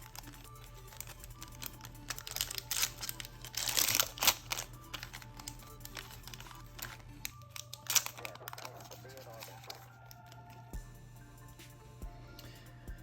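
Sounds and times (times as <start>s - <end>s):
cards handled with light clicks: 0.0s - 10.8s
foil pack crinkly rustle: 0.0s - 10.8s
faint background music: 0.0s - 13.0s.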